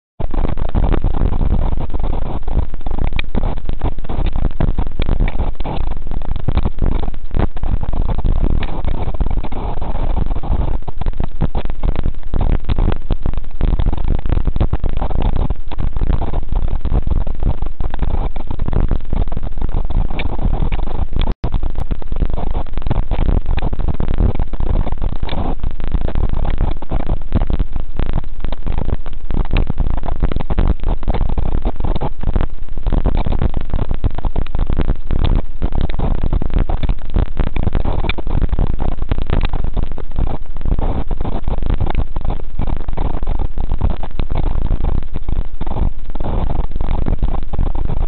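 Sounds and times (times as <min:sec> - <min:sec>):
strong wind buffeting microphone: 0:00.2 - 0:48.0.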